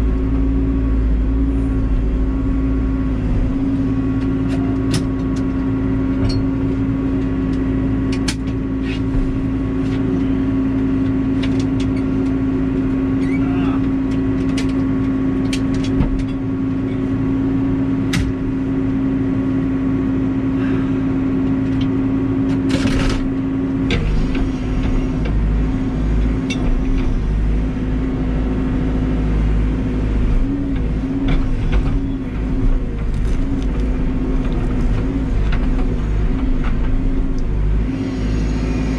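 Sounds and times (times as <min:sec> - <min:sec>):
diesel engine running at high revs: 0:00.0 - 0:38.9.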